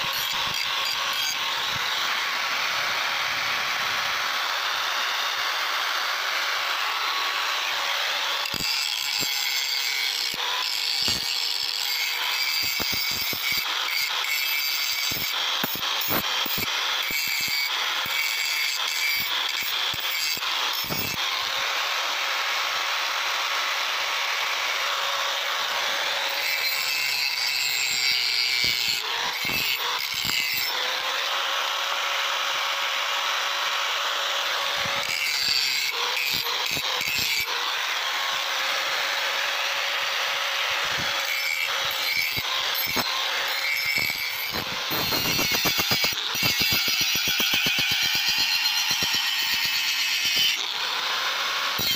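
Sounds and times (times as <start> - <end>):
angle grinder grinding steel: 0.0 - 51.9.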